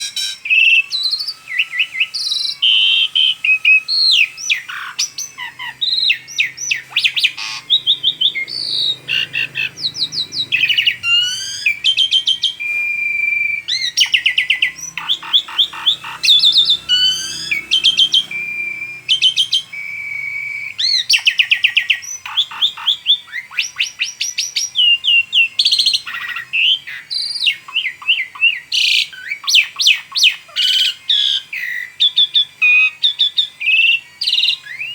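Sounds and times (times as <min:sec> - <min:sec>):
starling singing: 0:00.0 - 0:34.9.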